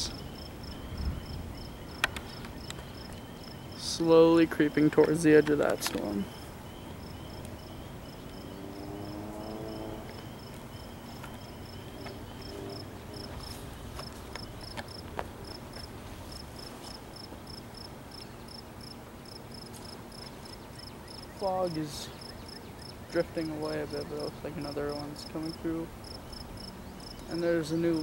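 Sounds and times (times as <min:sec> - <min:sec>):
crickets chirping: 0:00.0 - 0:28.0
lower insect chirping: 0:00.0 - 0:28.0.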